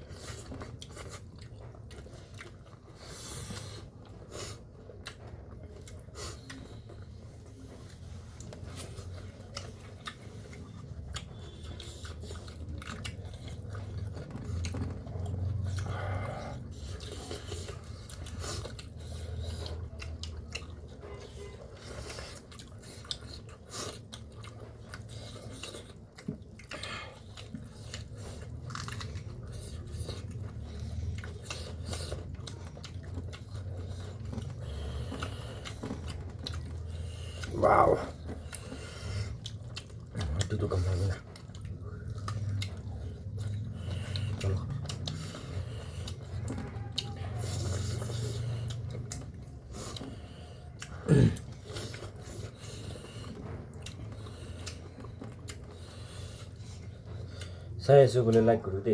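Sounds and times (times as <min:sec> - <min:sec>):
person chewing crunchy food: 0:00.0 - 0:58.8.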